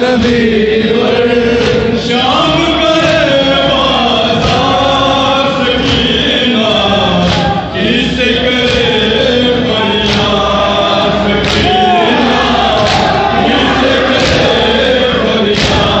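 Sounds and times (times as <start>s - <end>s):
chest-beating strikes: 0.0s - 16.0s
men chanting in unison: 0.0s - 16.0s.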